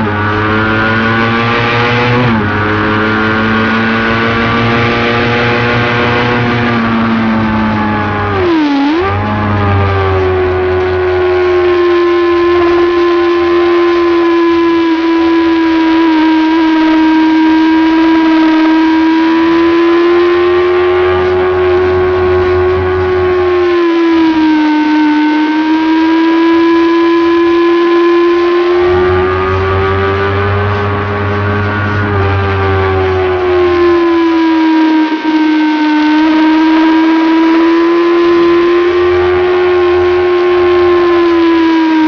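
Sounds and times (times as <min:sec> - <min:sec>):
motorcycle engine at high revs: 0:00.0 - 0:42.0.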